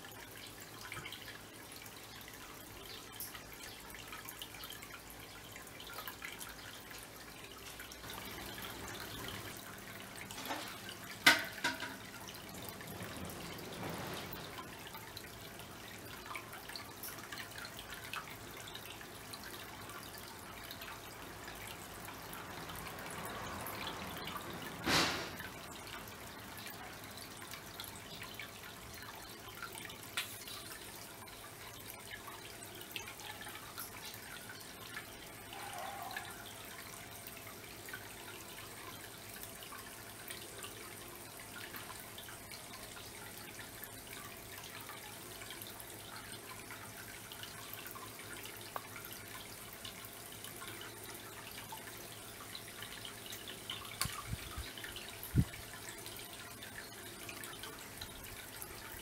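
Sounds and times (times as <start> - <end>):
water trickling into pond: 0.0 - 59.0.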